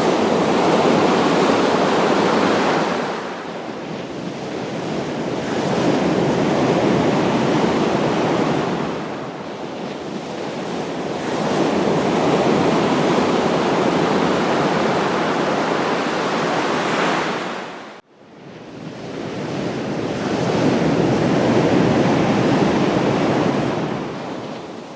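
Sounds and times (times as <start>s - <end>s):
ocean waves breaking on shore: 0.0s - 24.9s.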